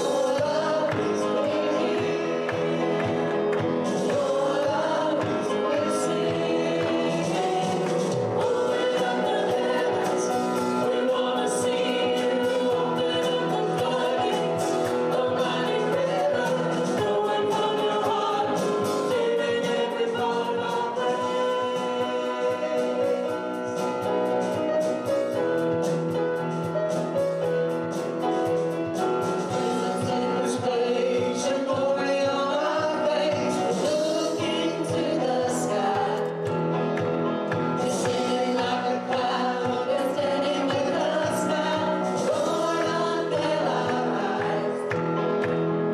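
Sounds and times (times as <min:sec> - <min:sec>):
group singing gospel song: 0:00.0 - 0:24.5, 0:29.2 - 0:45.9
instrumental accompaniment: 0:00.0 - 0:45.9.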